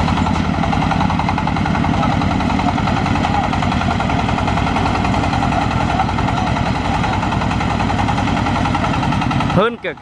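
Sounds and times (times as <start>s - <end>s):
engine running under load: 0.0s - 10.0s.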